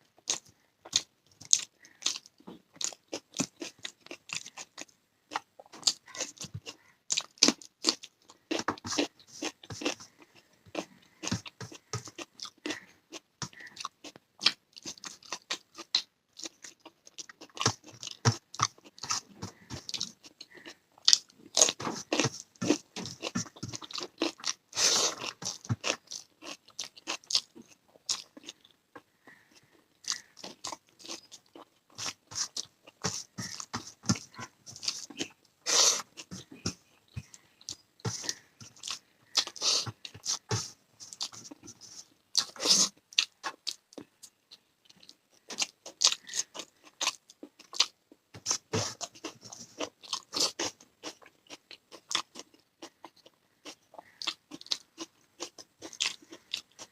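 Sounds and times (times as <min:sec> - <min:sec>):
person chewing and crunching: 0:00.0 - 0:56.9.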